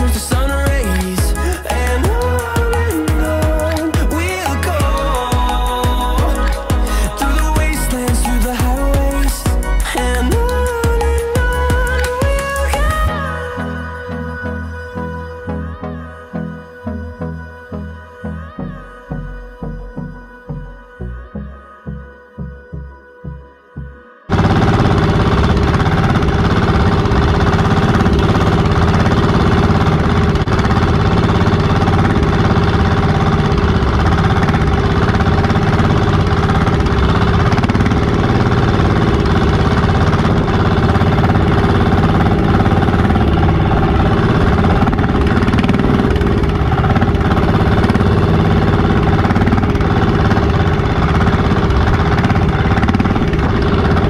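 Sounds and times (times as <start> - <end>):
boat engine running: 0.0 - 21.5, 24.3 - 54.0.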